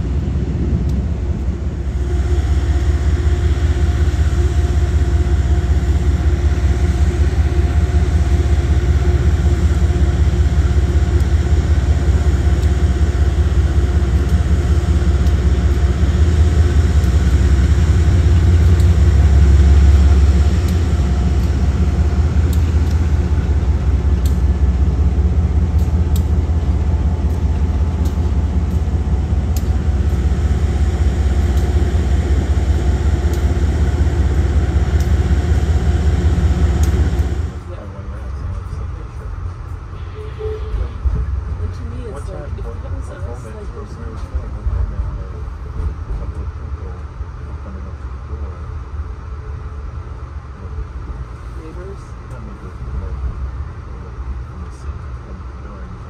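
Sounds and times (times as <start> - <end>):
locomotive rolling past: 0.0 - 48.7
diesel locomotive engine rumbling: 0.0 - 56.0.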